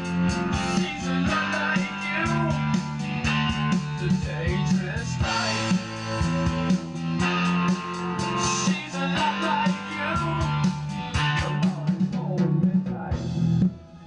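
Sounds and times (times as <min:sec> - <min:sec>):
guitar music with beat: 0:00.0 - 0:14.0.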